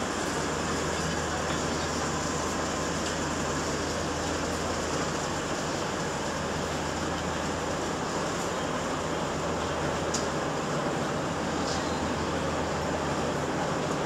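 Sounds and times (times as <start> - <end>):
diesel train engine hum: 0.0 - 14.0.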